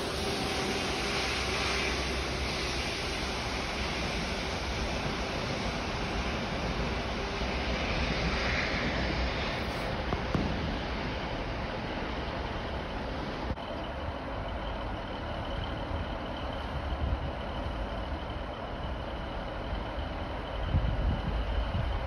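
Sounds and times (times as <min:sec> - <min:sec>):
distant train rumble: 0:00.0 - 0:22.0
outdoor background noise: 0:00.0 - 0:22.0.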